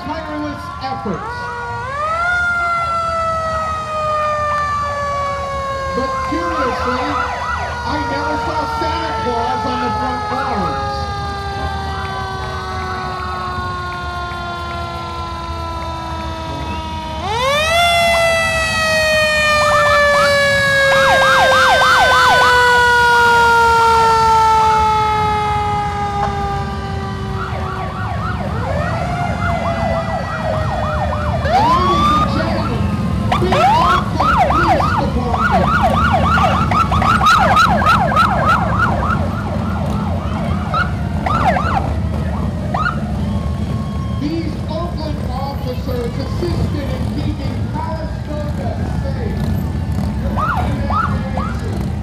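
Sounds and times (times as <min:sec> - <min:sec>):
fire engine siren: 0:00.0 - 0:52.0
motorcycle engine rumble: 0:00.0 - 0:52.0
motorcycle sirens yelping: 0:00.0 - 0:52.0.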